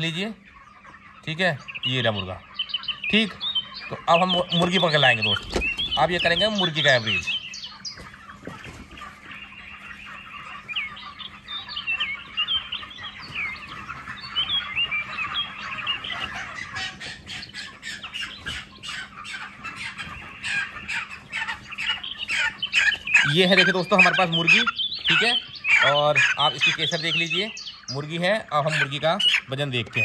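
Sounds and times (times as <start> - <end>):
chickens chirping and squawking: 0.0 - 30.0.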